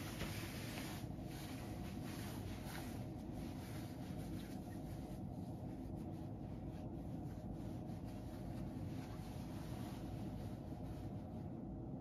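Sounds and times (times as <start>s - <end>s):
faint rustling: 0.0s - 11.6s
low room hum: 0.0s - 12.0s.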